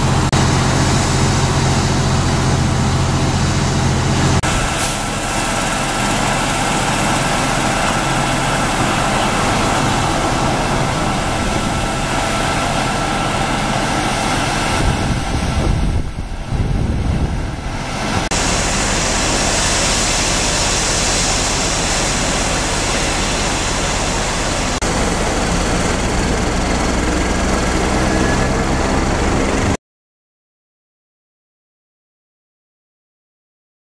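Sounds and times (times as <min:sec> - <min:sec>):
engines idling: 0:00.0 - 0:29.8.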